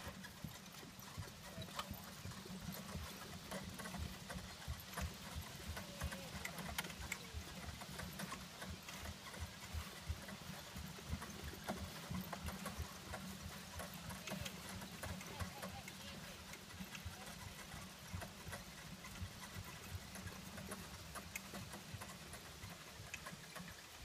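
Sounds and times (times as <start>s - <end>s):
carriage and harness rattling: 0.0s - 24.0s
horse hoofbeats on grass: 0.0s - 24.0s.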